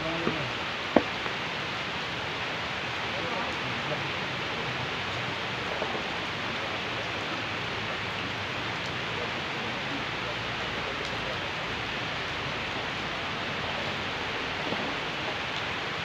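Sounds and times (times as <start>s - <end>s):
rain falling on pond water: 0.0s - 16.0s.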